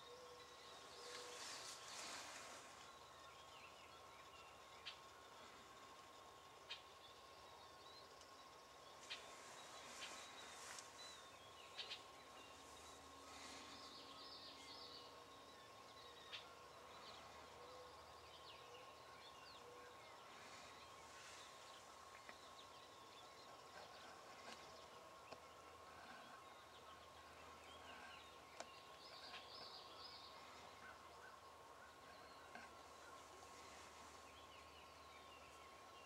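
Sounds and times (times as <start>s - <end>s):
songbird chirps: 0.0s - 36.0s.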